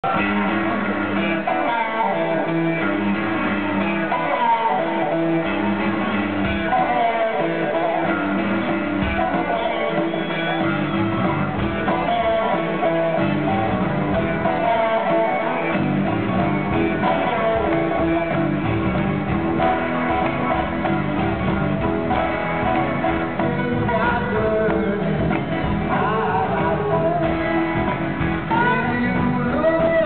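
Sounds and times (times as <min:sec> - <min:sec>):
electric guitars: 0:00.0 - 0:30.0
live band playing slow blues: 0:00.0 - 0:30.0.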